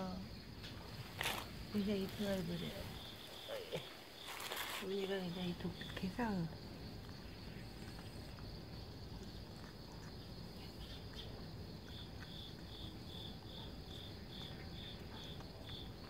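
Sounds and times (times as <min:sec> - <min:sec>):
insect chirping: 0:00.0 - 0:16.0
insect trill: 0:00.0 - 0:16.0.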